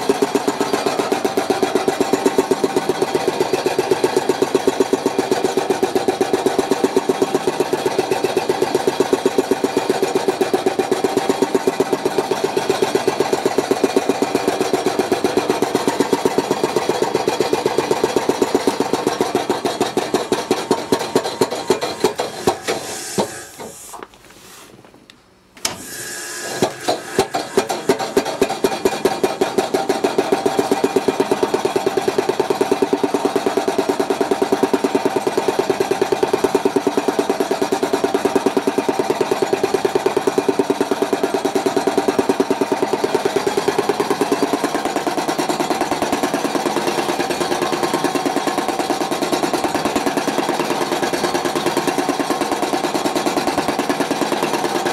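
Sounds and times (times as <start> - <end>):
machine mallet hammering a bat: 0.0 - 23.5, 26.4 - 54.9.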